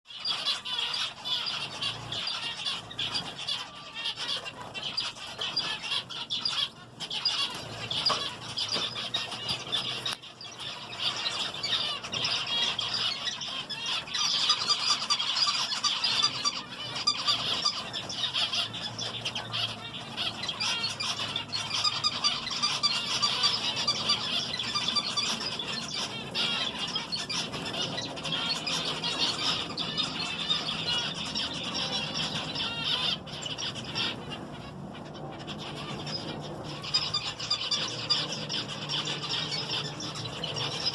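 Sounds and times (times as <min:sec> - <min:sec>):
finches chattering: 0:00.1 - 0:40.9.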